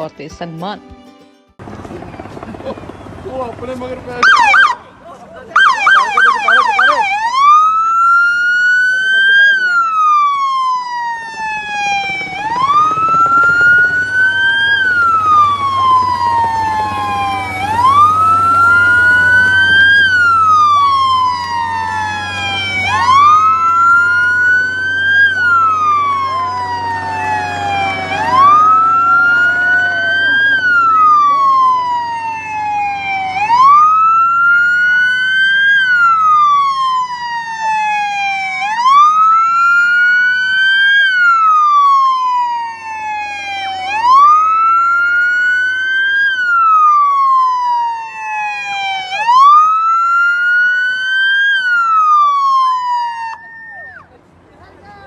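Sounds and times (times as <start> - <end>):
police siren wailing: 1.6 - 54.4
low engine hum: 1.6 - 55.0
second siren: 4.2 - 4.8, 5.5 - 54.2.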